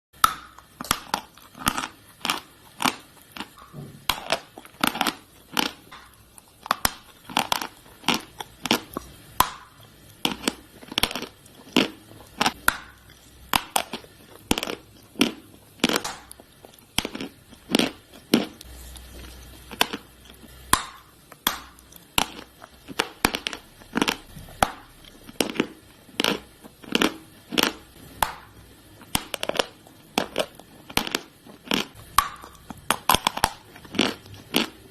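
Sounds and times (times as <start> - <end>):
chalk crunching while chewed: 0.3 - 28.4, 29.0 - 34.9.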